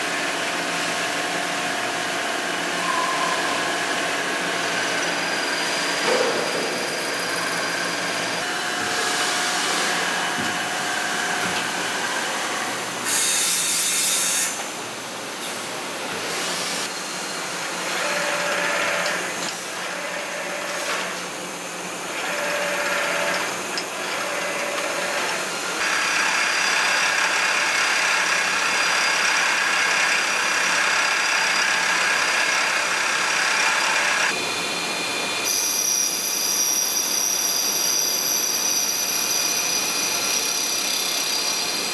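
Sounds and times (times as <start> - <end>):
cnc lathe cutting metal: 0.1 - 14.6, 16.5 - 41.9
high steady spindle whine: 0.1 - 14.6, 16.9 - 41.9.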